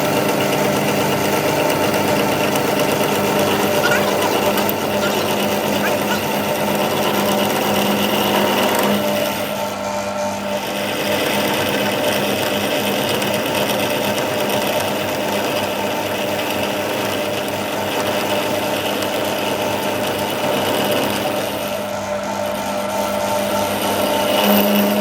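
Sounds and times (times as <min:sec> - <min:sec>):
power tool humming: 0:00.0 - 0:25.0.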